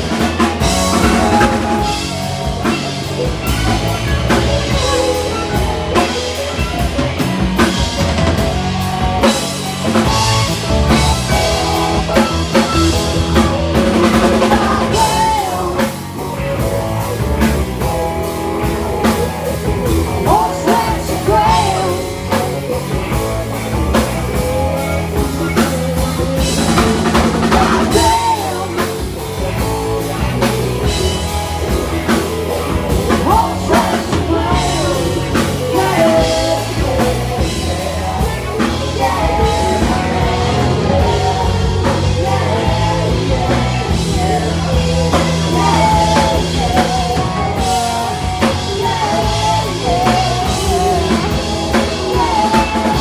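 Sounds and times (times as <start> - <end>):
live rock band playing: 0.0 - 53.0
wavering lead melody: 0.0 - 53.0.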